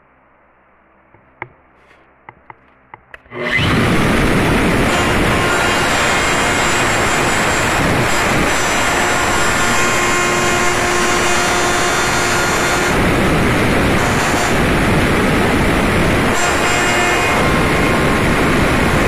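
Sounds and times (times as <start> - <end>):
router cutting metal: 3.2 - 19.0.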